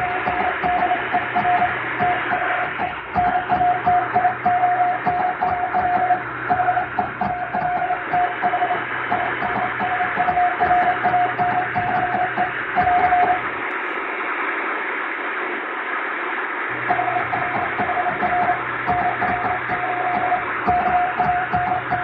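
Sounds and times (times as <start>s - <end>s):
morse code tone: 0.0s - 13.6s, 16.8s - 22.0s
radio hiss: 0.0s - 22.0s
static crackle: 0.0s - 22.0s.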